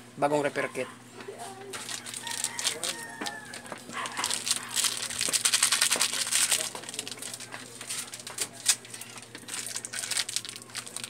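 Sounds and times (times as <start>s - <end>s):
plastic bag crinkling: 1.7s - 11.0s.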